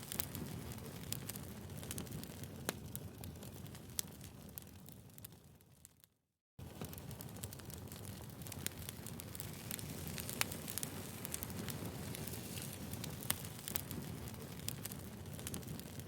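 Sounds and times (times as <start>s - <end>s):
fire low rumble: 0.0s - 5.7s, 6.6s - 16.0s
firewood crackling and popping: 0.0s - 16.0s.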